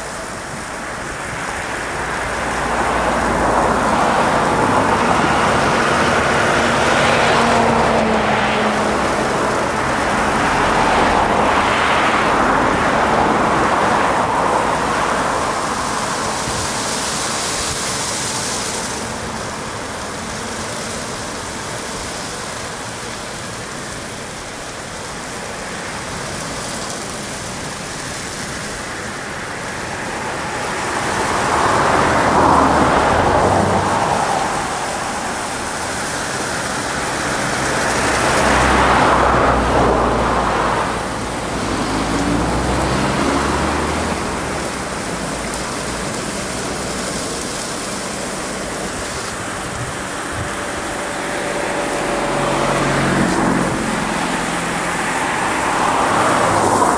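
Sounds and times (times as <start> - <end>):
car wash water jets spraying: 0.0 - 56.9.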